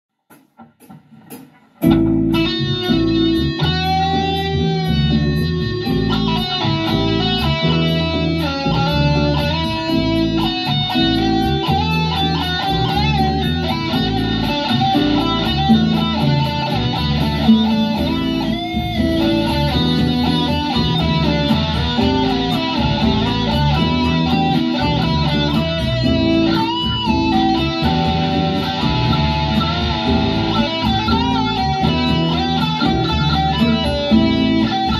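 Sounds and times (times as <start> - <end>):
backing track with steady beat: 0.2 - 34.9
electric guitar melodic lead: 1.8 - 34.9.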